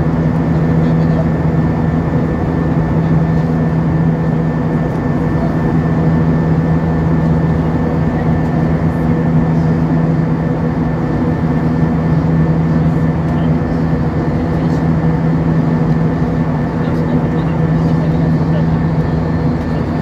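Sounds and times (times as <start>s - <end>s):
constant low hum: 0.0s - 20.0s
jet engines droning: 0.0s - 20.0s.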